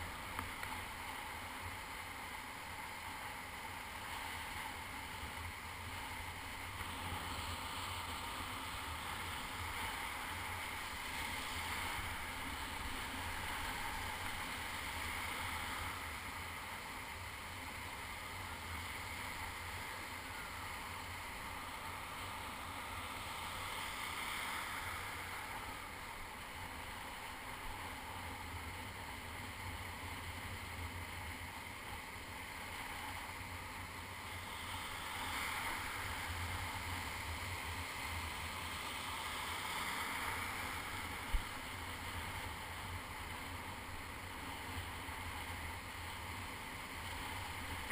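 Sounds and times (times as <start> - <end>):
surf breaking in shallow water: 0.0 - 47.9.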